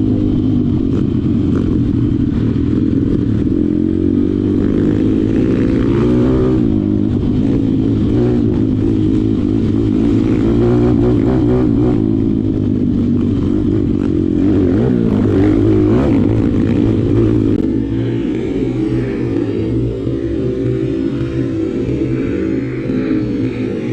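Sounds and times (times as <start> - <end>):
pit bike engine revving: 0.0 - 23.9.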